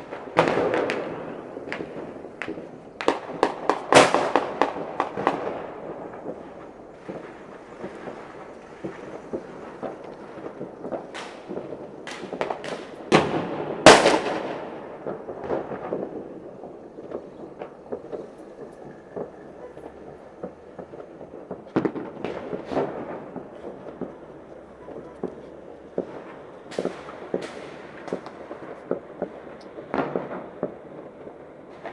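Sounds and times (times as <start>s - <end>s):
firecrackers crackling: 0.0s - 31.9s
fireworks booming with echo: 0.0s - 31.9s.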